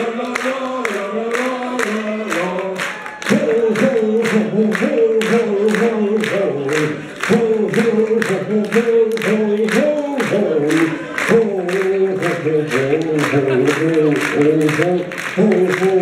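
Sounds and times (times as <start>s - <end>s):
audience clapping along: 0.0s - 16.0s
crowd of voices: 0.0s - 16.0s
man singing into microphone: 0.0s - 16.0s.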